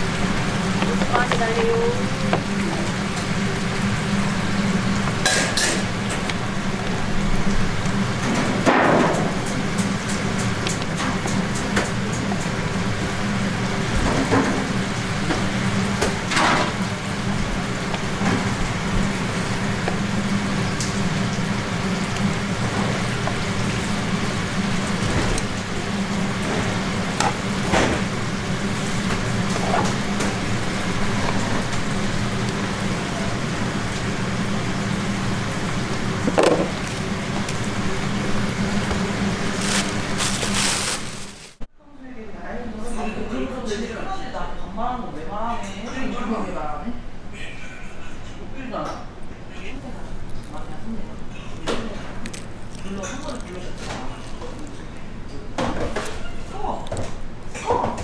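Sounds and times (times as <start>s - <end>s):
steady kitchen hiss: 0.0s - 58.0s.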